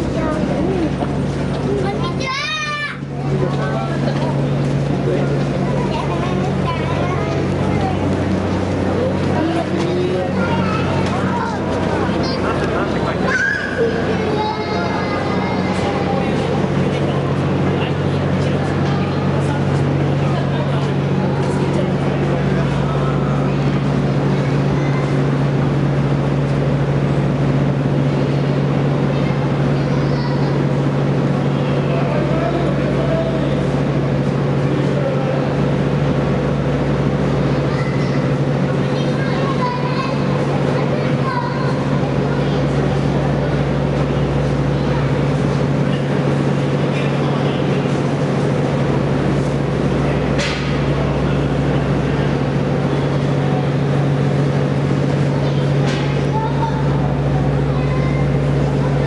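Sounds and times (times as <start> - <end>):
train equipment hum: 0.0 - 59.0.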